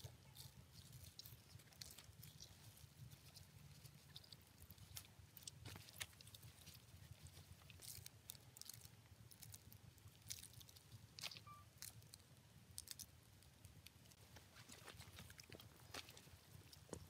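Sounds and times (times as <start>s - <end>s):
handling and rubbing meat: 0.0s - 17.0s
low background hum: 0.0s - 17.0s
small clicks and crackles: 0.0s - 17.0s.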